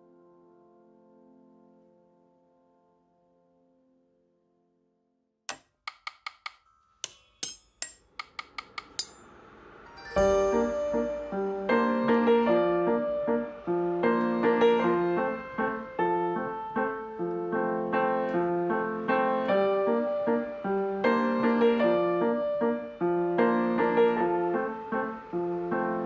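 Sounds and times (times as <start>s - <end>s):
calm piano music: 0.0s - 5.2s, 9.9s - 26.0s.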